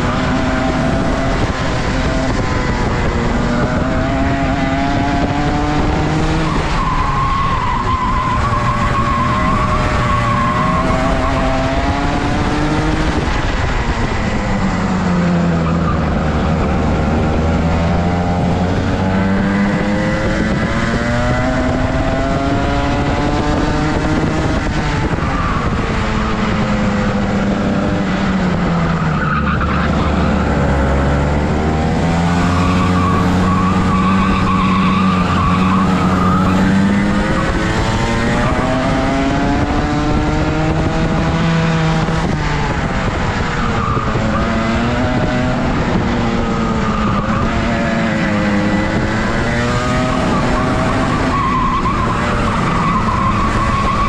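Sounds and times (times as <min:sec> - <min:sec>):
kart engine accelerating: 0:00.0 - 0:54.0.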